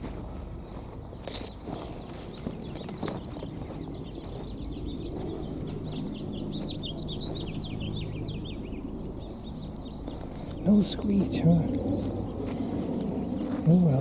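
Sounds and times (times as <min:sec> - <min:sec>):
songbirds twittering: 0:00.0 - 0:14.0.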